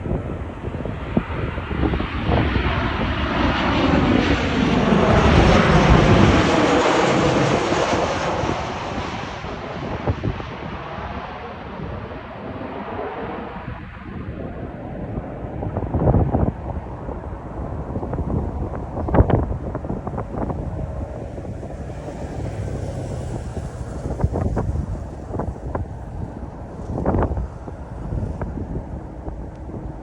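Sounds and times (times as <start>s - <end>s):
jet airliner roar: 0.0s - 30.0s.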